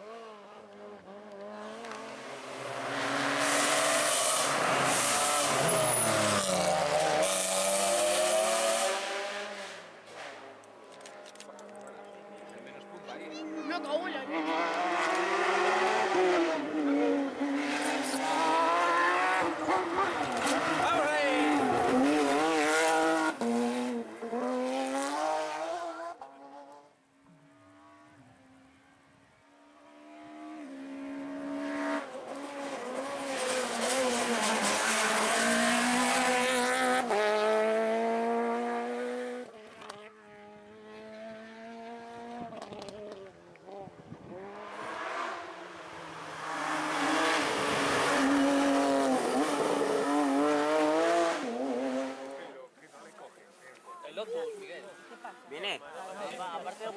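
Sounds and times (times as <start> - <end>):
rally car engines revving: 0.0 - 53.2.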